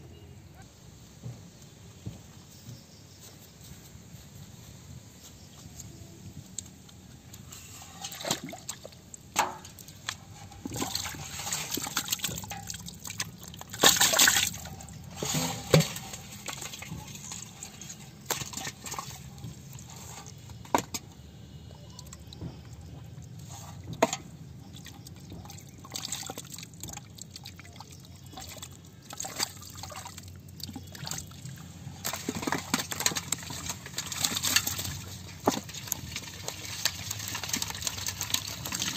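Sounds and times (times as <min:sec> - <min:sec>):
muddy water sloshing and splashing: 0:07.4 - 0:38.9.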